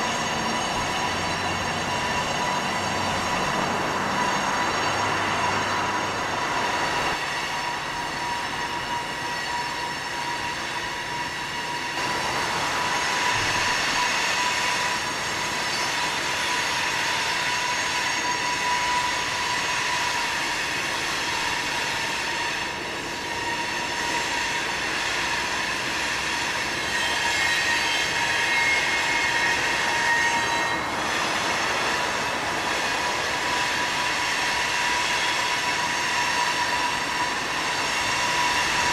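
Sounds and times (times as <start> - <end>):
train rolling rumble: 0.0 - 38.9
train wheel flange squeal: 0.0 - 38.9.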